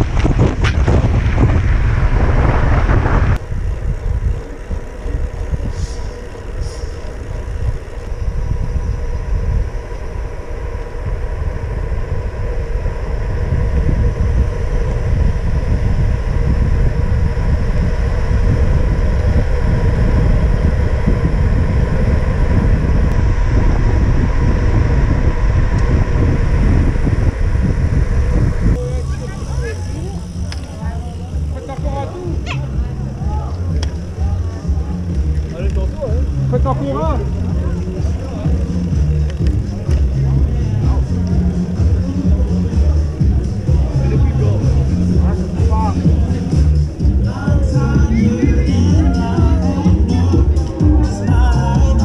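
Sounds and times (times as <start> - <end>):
wind buffeting microphone: 0.0 - 51.9
bicycle tyre rumble on asphalt: 0.0 - 52.0.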